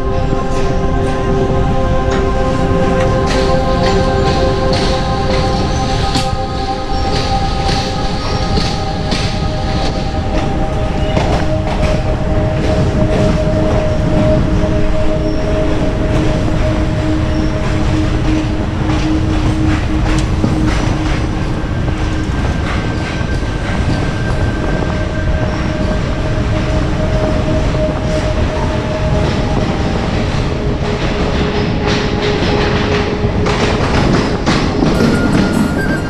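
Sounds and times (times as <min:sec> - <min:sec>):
faint steady whining tones: 0:00.0 - 0:36.0
train wheels rumbling on rail: 0:00.0 - 0:36.0.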